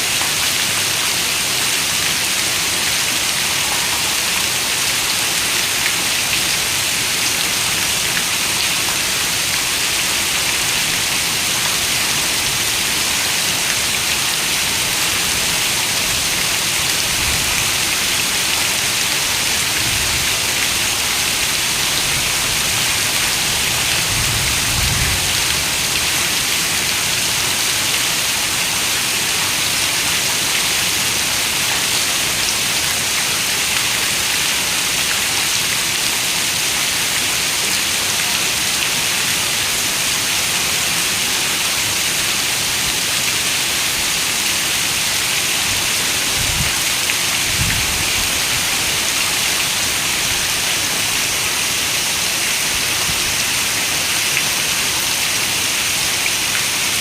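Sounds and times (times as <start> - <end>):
heavy rain on a window: 0.0 - 57.0.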